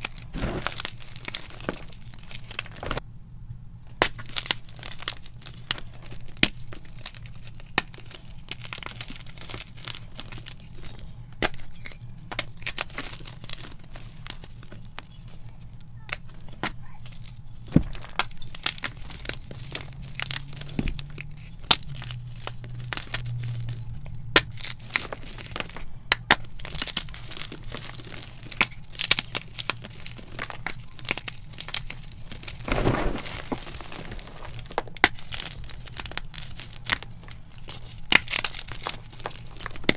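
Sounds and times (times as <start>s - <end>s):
chalk crunching and cracking: 0.0s - 3.0s, 4.0s - 23.2s, 24.4s - 39.9s.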